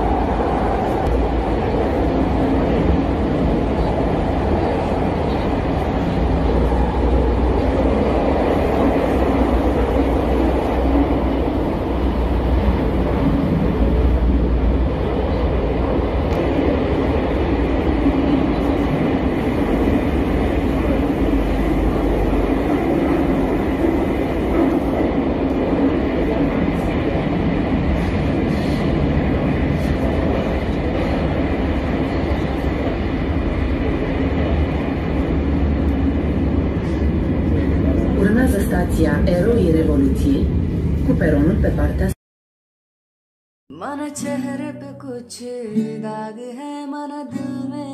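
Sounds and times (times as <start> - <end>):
metro train rumble inside carriage: 0.0 - 42.2.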